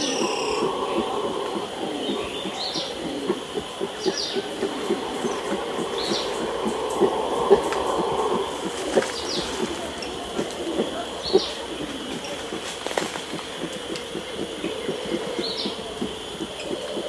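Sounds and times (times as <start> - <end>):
howler monkey troop roaring: 0.0 - 17.0
monkey grunting aggressively: 0.0 - 17.0.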